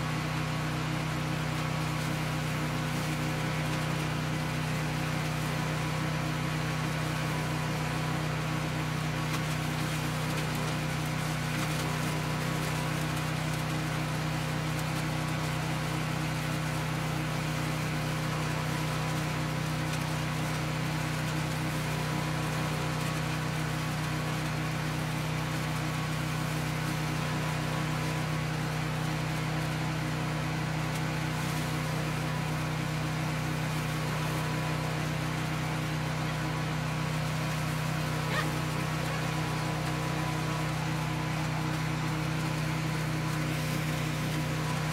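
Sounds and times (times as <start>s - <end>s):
dry leaves being shredded: 0.0s - 44.9s
small engine running steadily: 0.0s - 44.9s.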